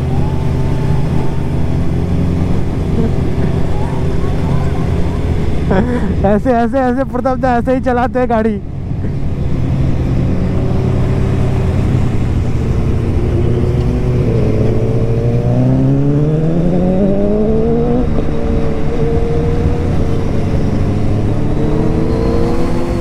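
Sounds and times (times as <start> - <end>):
motorcycle engine accelerating: 0.0 - 7.9, 8.6 - 23.0.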